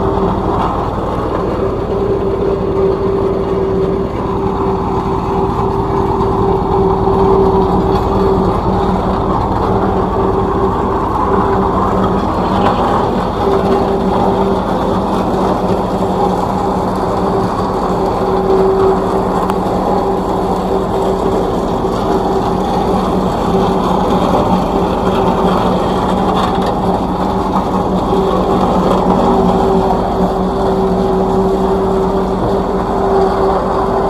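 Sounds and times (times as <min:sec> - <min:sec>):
road roller engine droning: 0:00.0 - 0:34.0.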